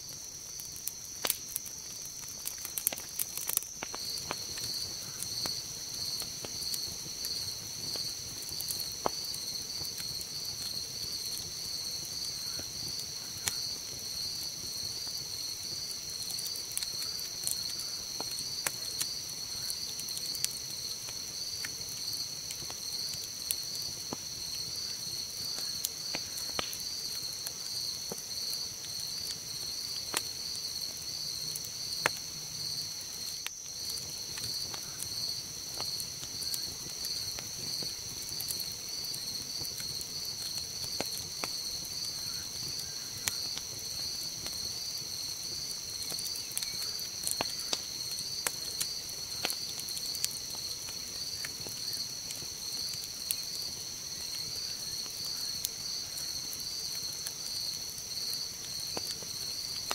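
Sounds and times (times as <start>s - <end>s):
campfire crackling: 0.0s - 59.9s
crickets trilling: 0.0s - 59.9s.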